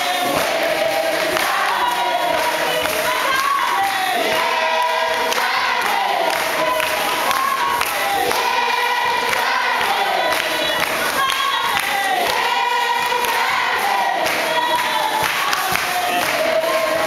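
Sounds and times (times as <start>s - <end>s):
choir singing: 0.0s - 17.0s
crowd noise: 0.0s - 17.0s.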